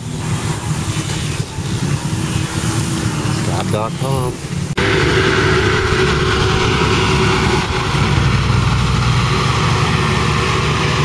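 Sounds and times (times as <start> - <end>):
diesel loader engine running: 0.0 - 11.0.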